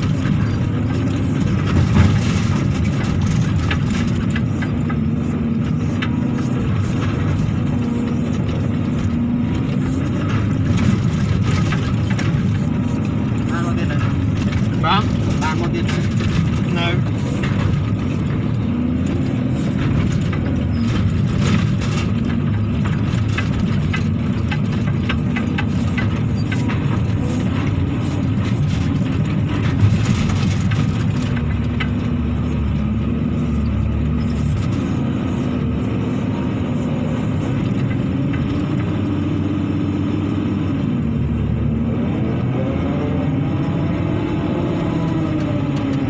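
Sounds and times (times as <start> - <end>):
knocks and rattles: 0.0 - 42.0
excavator diesel engine running: 0.0 - 46.0.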